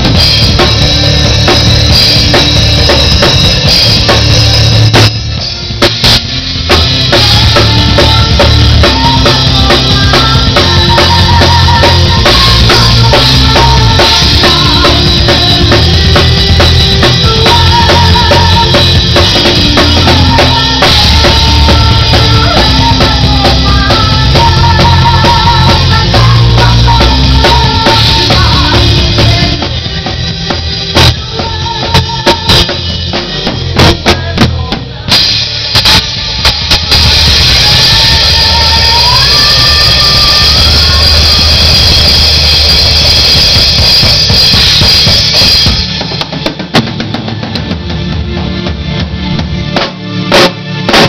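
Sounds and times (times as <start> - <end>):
low bass notes: 0.0 - 46.0
drum kit: 0.0 - 51.0
rock band playing: 0.0 - 51.0.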